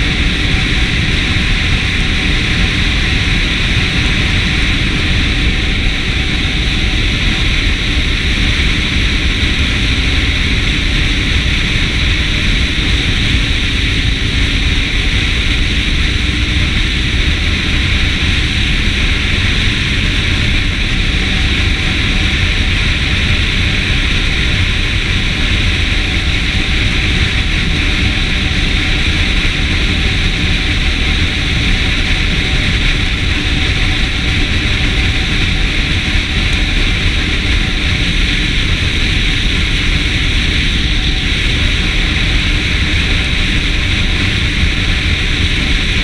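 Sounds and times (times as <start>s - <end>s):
motorcycle engine rumble: 0.0s - 46.0s
tyres rumbling: 0.0s - 46.0s
wind rushing over microphone: 0.0s - 46.0s.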